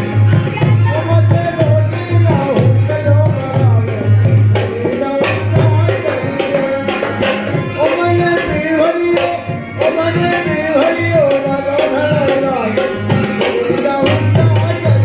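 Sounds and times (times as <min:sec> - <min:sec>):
hand drum beating: 0:00.0 - 0:15.0
ornamented melody line: 0:00.0 - 0:15.0.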